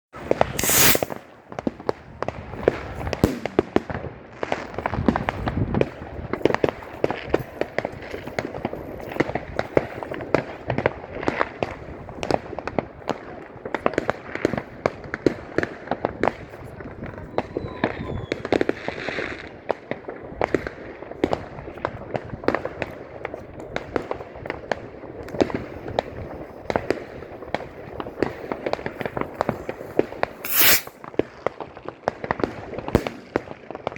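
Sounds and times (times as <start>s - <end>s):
fireworks and firecrackers: 0.2s - 33.9s.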